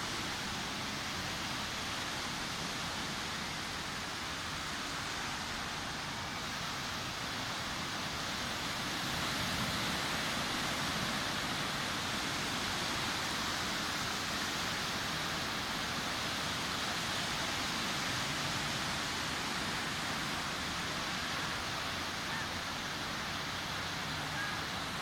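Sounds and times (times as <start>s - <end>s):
sea surf washing onto beach: 0.0s - 25.0s.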